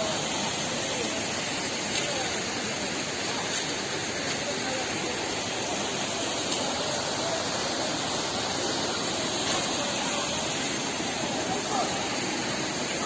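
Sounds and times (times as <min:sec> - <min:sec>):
waterfall roar: 0:00.0 - 0:13.0.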